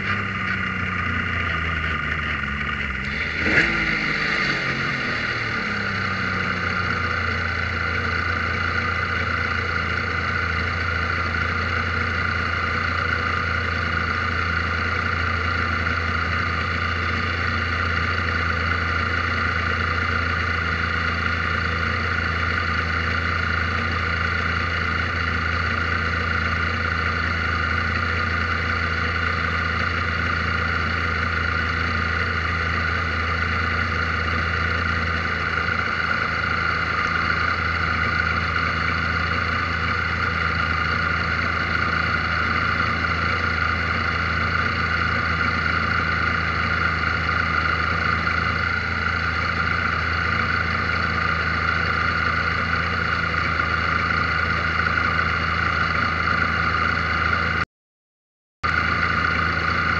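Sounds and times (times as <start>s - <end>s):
race car engine idling: 0.0s - 57.6s, 58.6s - 59.9s.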